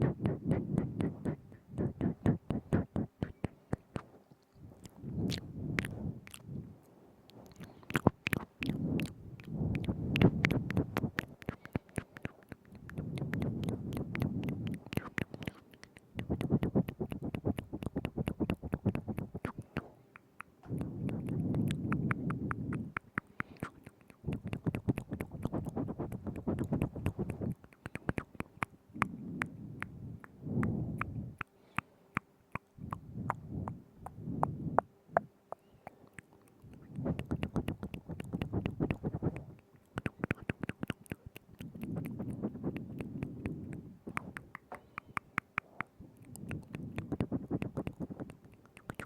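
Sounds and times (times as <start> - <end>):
soft low squelching: 0.0 - 49.0
wet mouth clicks: 0.0 - 49.0.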